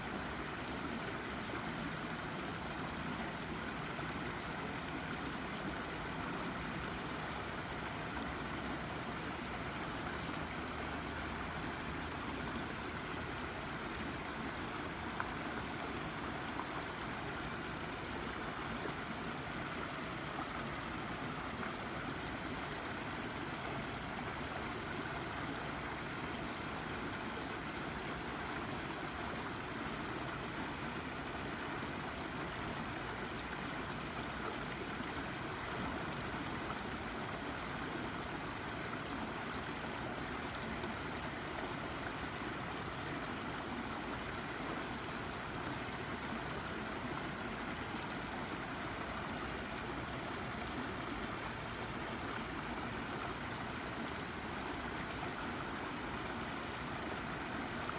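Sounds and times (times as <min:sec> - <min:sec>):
brook water gurgling over rock: 0:00.0 - 0:57.9.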